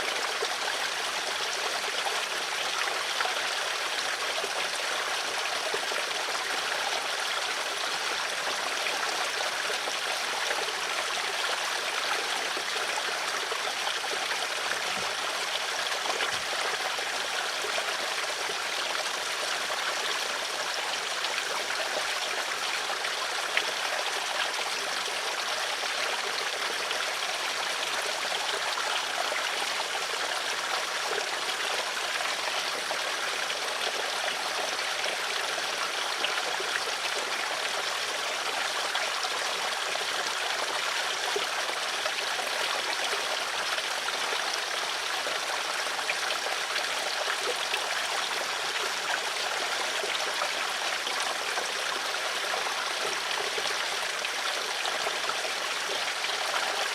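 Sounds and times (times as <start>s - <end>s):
stream water babbling: 0.0s - 56.9s.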